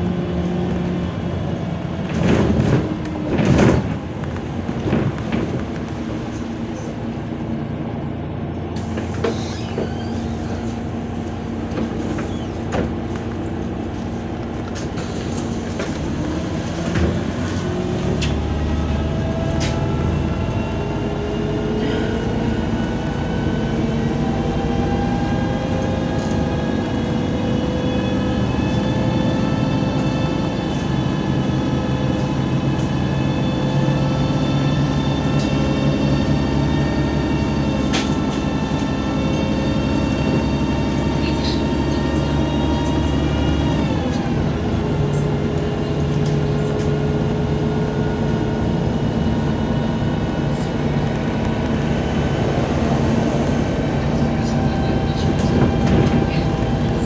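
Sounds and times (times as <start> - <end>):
bus engine hum: 0.0 - 57.0
drivetrain whine: 0.0 - 57.0.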